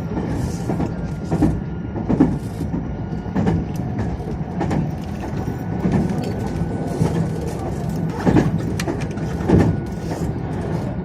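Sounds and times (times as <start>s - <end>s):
regular train knock: 0.0s - 10.8s
electric train low rumble: 0.0s - 11.0s.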